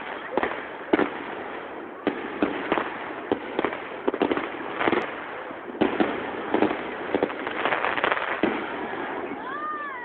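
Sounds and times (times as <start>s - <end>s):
fireworks bangs and pops: 0.0s - 9.9s
fireworks crackle: 0.0s - 10.0s.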